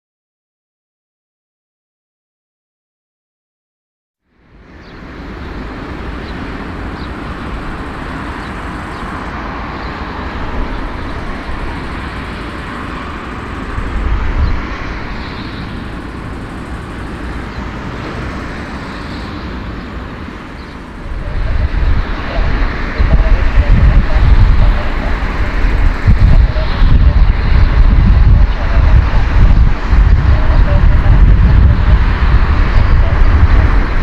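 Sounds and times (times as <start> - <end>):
distant jet engines roaring: 4.3 - 34.0
low rumble: 5.4 - 34.0.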